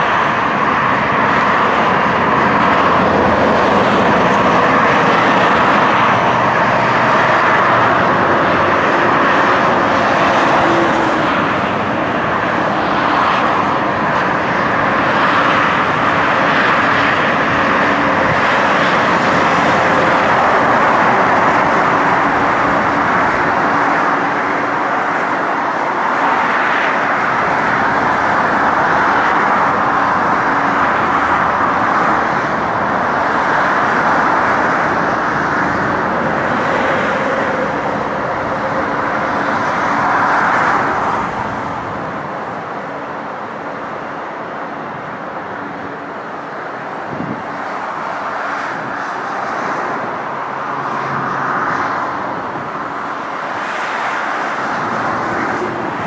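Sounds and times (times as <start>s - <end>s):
expressway traffic noise: 0.0s - 56.0s.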